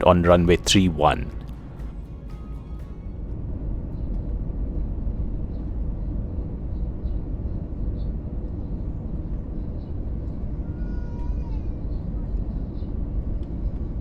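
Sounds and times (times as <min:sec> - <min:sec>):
airplane cabin low rumble: 0:00.0 - 0:14.0.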